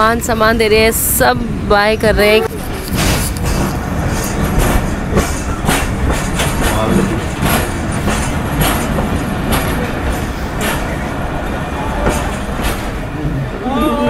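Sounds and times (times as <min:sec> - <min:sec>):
train rumbling: 0:00.0 - 0:14.0
wheels clacking on rails: 0:00.0 - 0:14.0.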